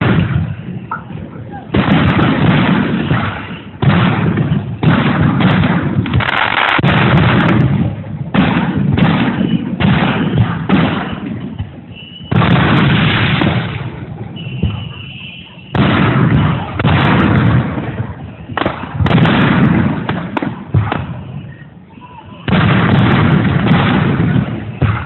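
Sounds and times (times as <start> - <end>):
fireworks booming with echo: 0.0 - 25.0.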